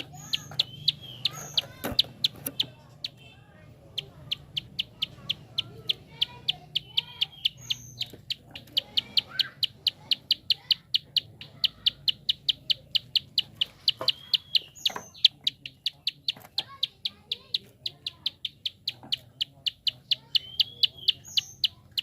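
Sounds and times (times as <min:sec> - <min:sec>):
faint bird chirps: 0:00.0 - 0:22.0
bird fast clicking call: 0:04.0 - 0:22.0.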